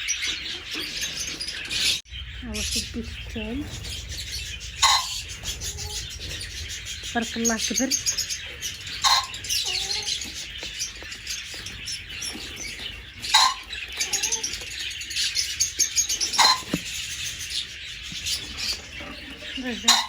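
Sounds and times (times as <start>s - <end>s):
sharp bird calls: 0.0s - 20.0s
small birds chirping: 0.0s - 20.0s.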